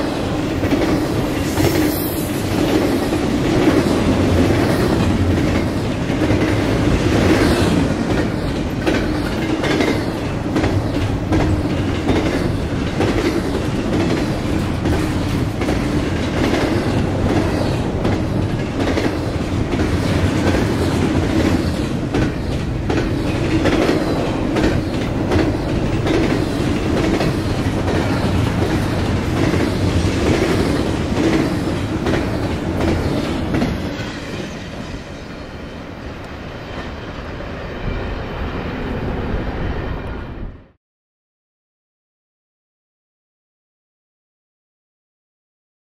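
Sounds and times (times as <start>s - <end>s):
train wheels clickety-clack: 0.0s - 37.4s
train rumble: 0.0s - 40.8s.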